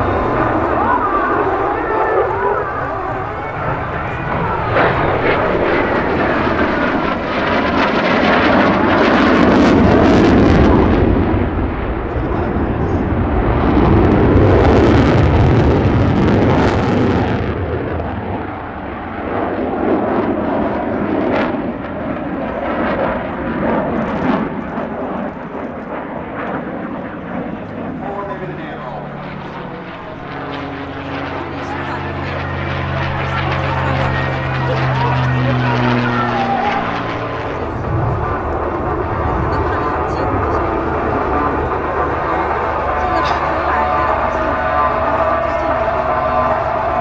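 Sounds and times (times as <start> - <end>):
jet engine roaring past: 0.0 - 47.0.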